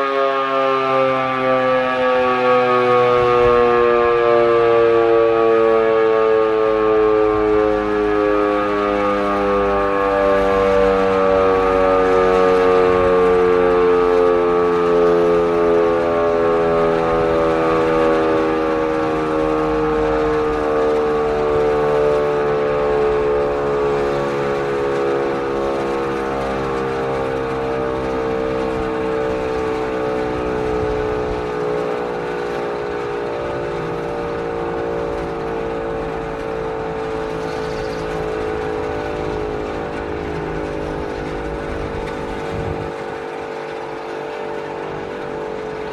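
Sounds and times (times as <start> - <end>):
siren wail winding down: 0.0 - 45.9.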